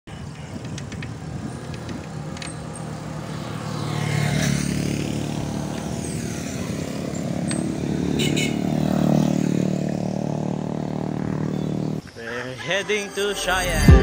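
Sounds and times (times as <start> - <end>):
road noise: 0.1 - 14.0
motor vehicle engine running: 0.2 - 12.0.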